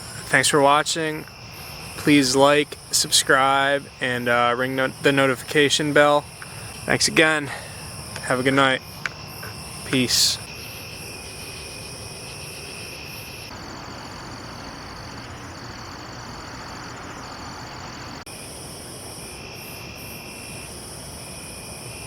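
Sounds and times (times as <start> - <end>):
background hiss: 0.0 - 22.0
crickets and insects trilling: 0.0 - 22.0.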